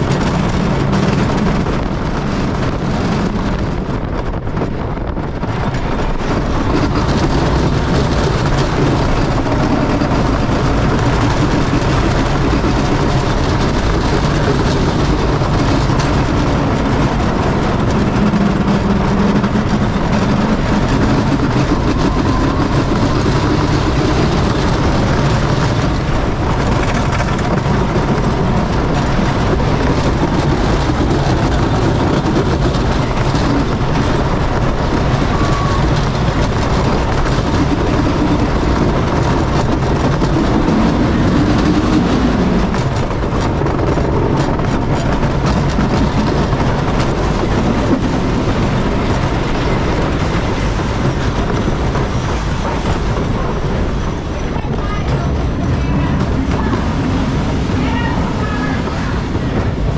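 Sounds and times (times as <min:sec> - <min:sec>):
roller coaster rumble and clatter: 0:00.0 - 0:59.9.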